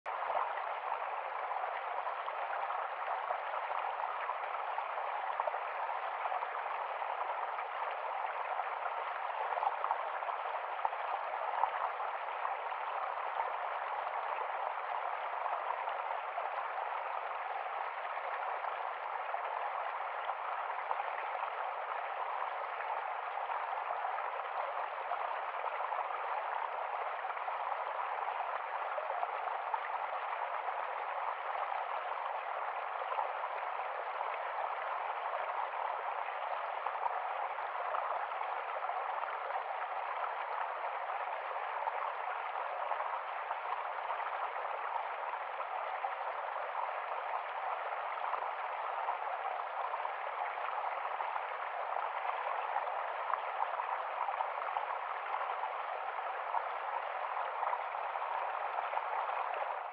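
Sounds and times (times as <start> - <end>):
water trickling over rocks: 0.1 - 59.9.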